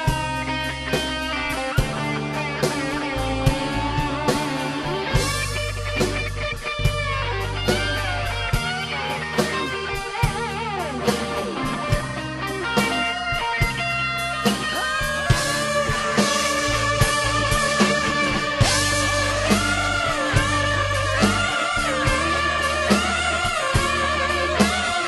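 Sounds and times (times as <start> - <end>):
bass: 0.0 - 25.0
electric guitar lead: 0.0 - 25.0
steady drum beat: 0.0 - 25.0.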